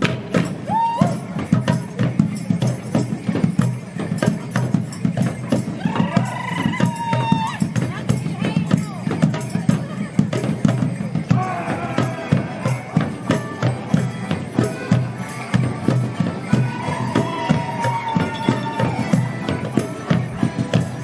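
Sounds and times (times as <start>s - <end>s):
folk dance tune on melodeons: 0.0s - 21.0s
steady drum beat: 0.0s - 21.0s.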